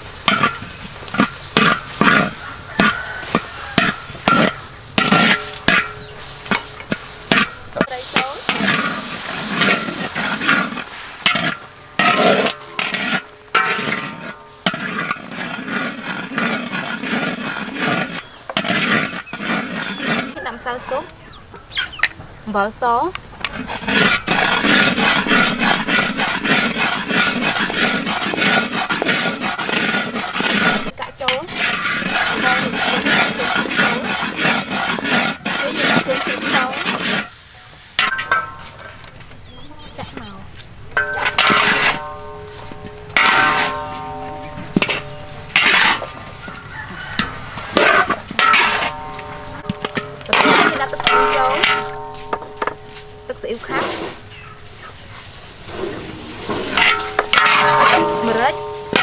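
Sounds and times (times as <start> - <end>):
metal spatula scraping wok: 0.0 - 21.1, 21.8 - 59.0
garlic sizzling: 0.0 - 59.0.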